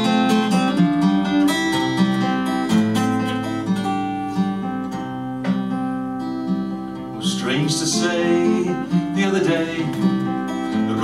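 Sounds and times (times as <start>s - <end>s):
solo acoustic guitar: 0.0s - 11.0s.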